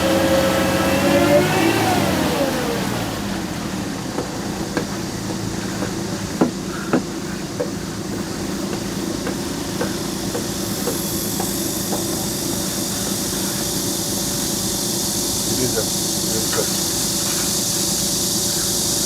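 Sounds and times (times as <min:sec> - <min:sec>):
engine running: 0:00.0 - 0:19.0
hiss: 0:00.0 - 0:19.0.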